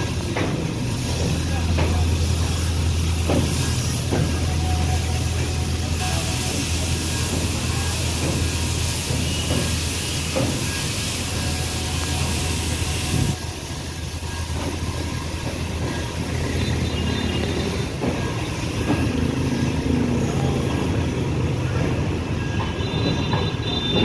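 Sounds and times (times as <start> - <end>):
high hiss: 0.0 - 24.0
train wheels rumbling on rails: 0.0 - 24.0.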